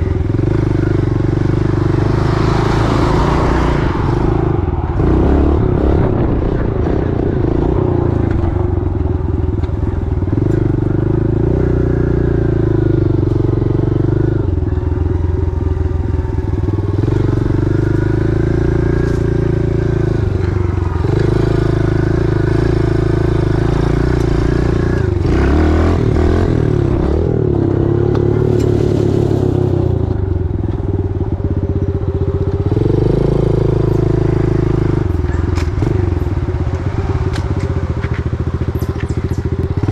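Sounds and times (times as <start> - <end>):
small motorcycle engine running: 0.0 - 4.0, 5.6 - 39.9.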